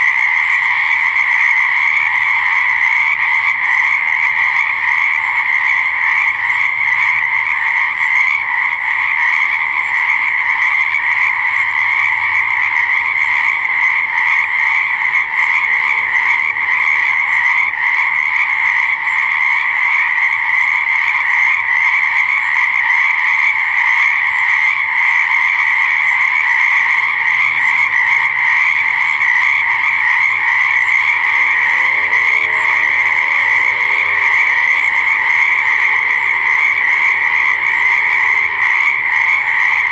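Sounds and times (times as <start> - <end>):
chorus of frogs croaking: 0.0 - 39.9
lower-pitched frog calls: 0.0 - 39.9.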